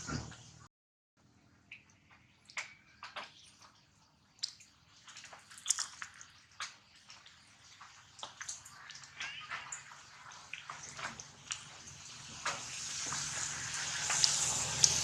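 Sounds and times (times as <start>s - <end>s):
water splashing and dripping: 1.7s - 15.0s.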